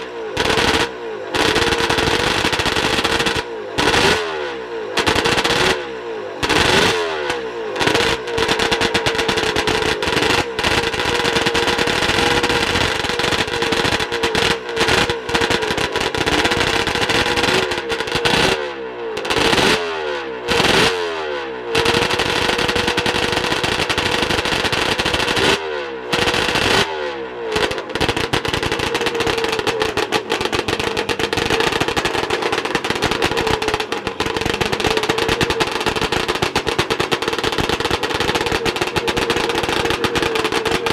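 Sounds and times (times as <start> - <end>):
two-stroke race engine revving: 0.0 - 40.9.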